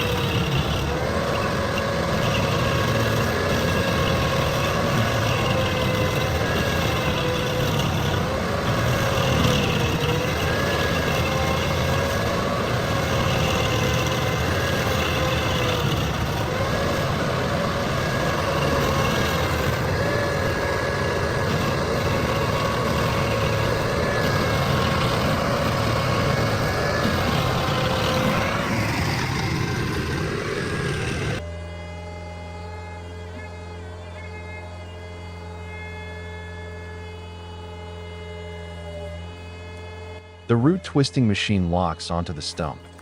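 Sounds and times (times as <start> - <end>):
heavy machine engine running: 0.0 - 43.0.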